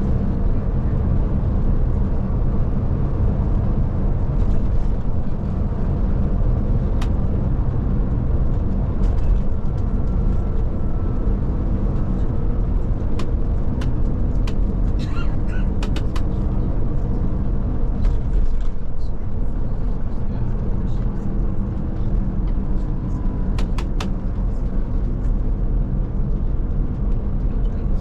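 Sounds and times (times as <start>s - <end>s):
coach engine and road noise: 0.0s - 28.0s.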